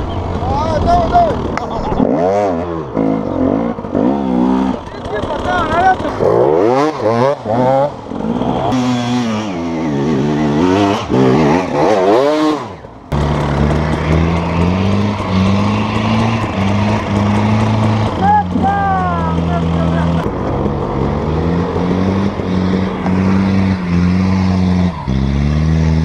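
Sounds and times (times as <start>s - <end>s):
dirt bike engine revving: 0.0s - 26.0s
off-road vehicle engine climbing: 0.0s - 26.0s.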